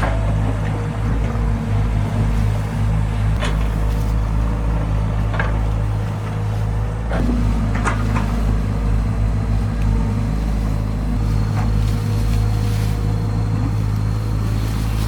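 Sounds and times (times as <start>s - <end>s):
heavy engine humming: 0.0s - 15.0s.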